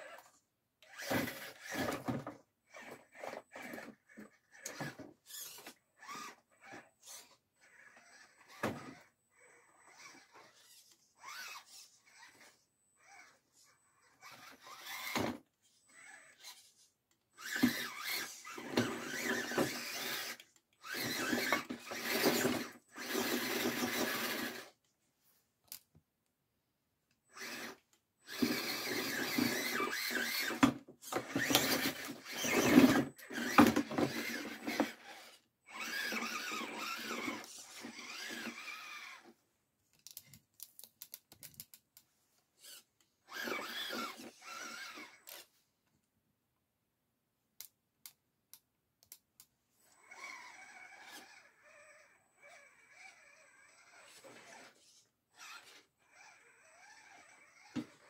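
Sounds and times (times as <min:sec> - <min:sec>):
electric motor and gears whining: 0:00.0 - 0:24.8, 0:27.3 - 0:39.3, 0:42.6 - 0:45.5, 0:49.9 - 0:58.0.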